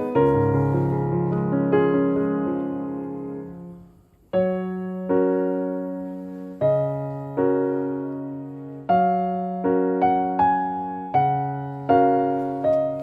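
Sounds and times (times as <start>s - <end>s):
electric piano chords: 0.0s - 13.0s.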